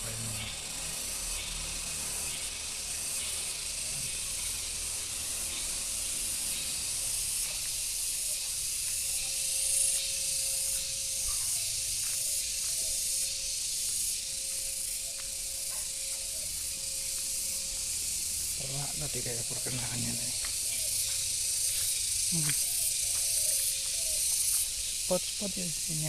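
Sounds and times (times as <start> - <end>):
high-pitched outdoor hiss: 0.0 - 26.0.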